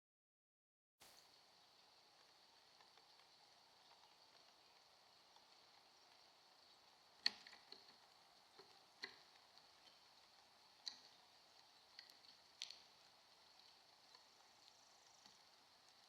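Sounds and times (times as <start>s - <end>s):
faint high hiss: 1.0s - 16.0s
birds pecking at food: 1.1s - 16.0s.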